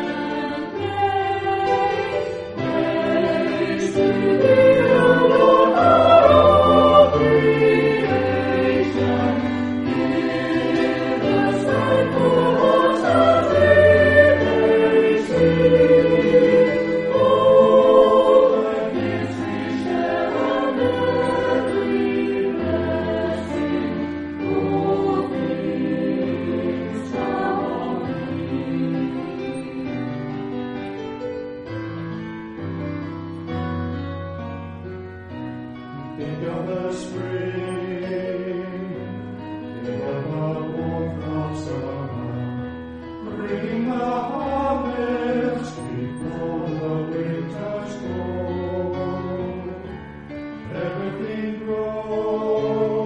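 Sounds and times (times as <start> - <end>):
church choir singing: 0.0 - 31.1, 36.0 - 53.0.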